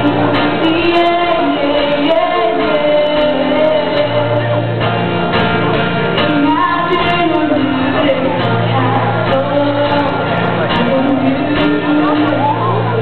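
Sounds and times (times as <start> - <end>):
person singing: 0.0 - 5.0, 6.2 - 13.0
instrumental accompaniment: 0.0 - 13.0
long held bass notes: 0.0 - 13.0.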